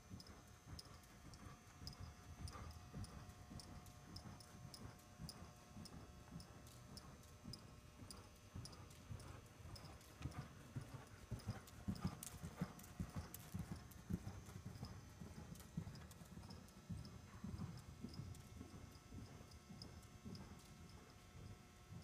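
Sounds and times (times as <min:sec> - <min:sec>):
pony hoofbeats trotting on sand: 0:00.0 - 0:22.0.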